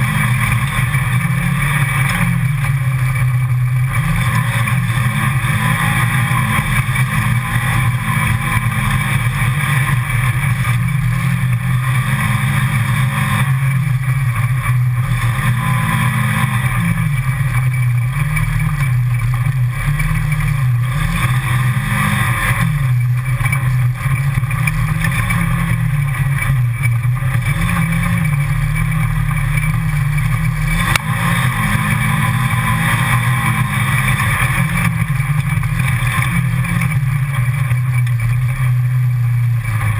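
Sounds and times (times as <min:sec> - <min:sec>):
utility vehicle engine revving: 0:00.0 - 0:39.9.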